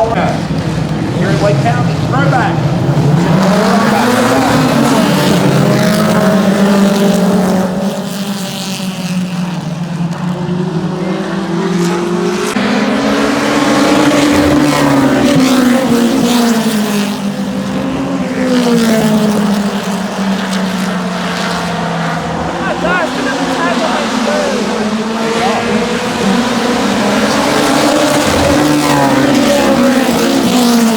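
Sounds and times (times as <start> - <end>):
race car engines passing: 0.0 - 30.9.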